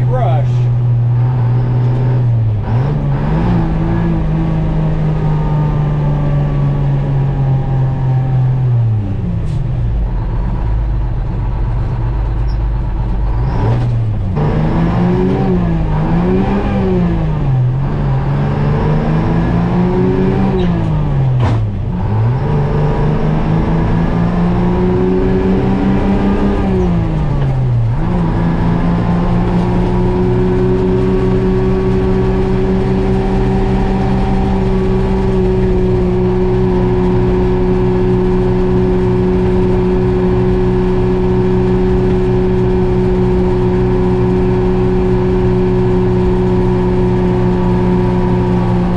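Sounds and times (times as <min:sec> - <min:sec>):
truck diesel engine revving: 0:00.0 - 0:48.9.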